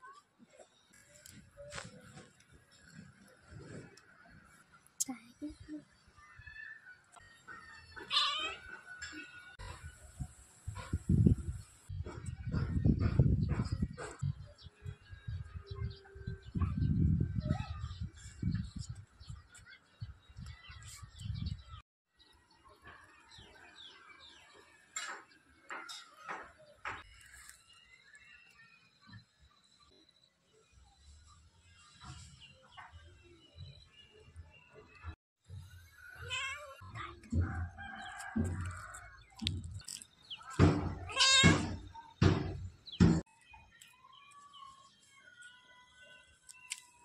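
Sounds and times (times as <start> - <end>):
small birds chirping: 0.5 - 47.0.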